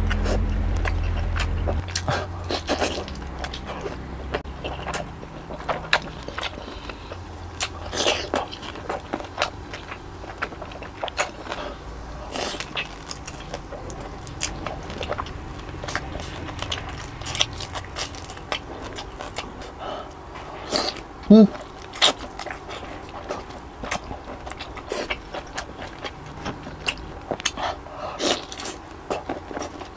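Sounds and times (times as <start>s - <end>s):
biting and chewing: 0.0s - 29.9s.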